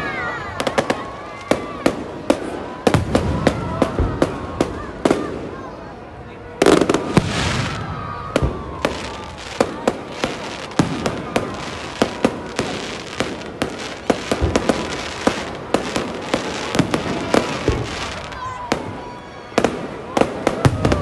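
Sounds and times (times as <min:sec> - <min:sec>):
fireworks crackling: 0:00.0 - 0:06.0, 0:06.6 - 0:21.0.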